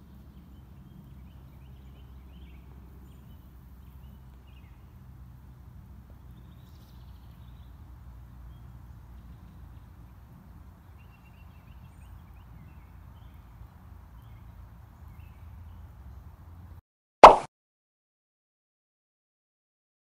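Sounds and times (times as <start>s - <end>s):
faint outdoor hum: 0.0s - 16.7s.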